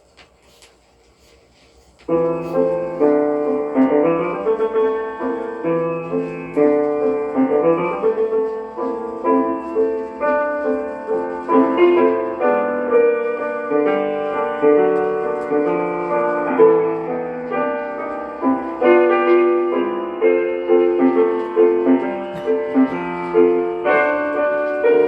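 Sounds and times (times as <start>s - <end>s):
dull music from a record: 0.0s - 25.0s
record surface hiss: 0.0s - 25.0s.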